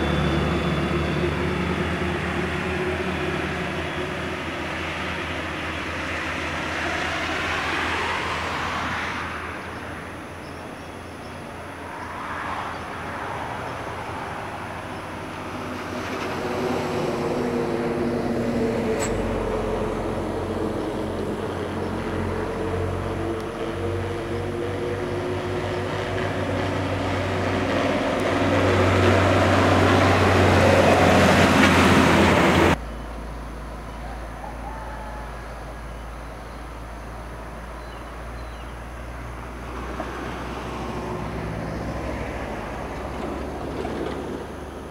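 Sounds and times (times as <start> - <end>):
background traffic: 0.0 - 44.9.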